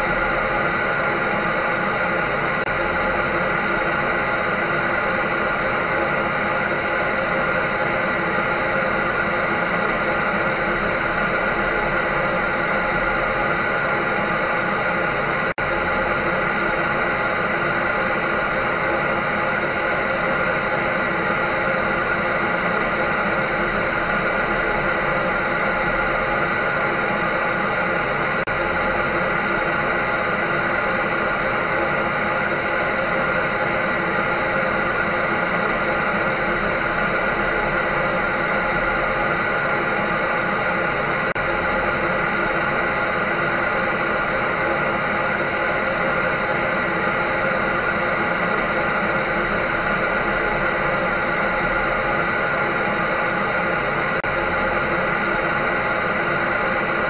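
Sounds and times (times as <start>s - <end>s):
electric dryer running: 0.0s - 57.0s.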